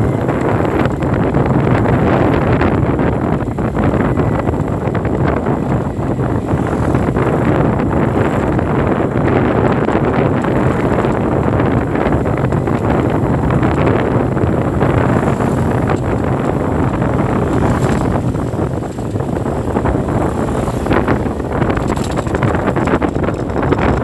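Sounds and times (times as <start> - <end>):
city street traffic: 0.0 - 24.0
wind rumble on microphone: 0.0 - 24.0.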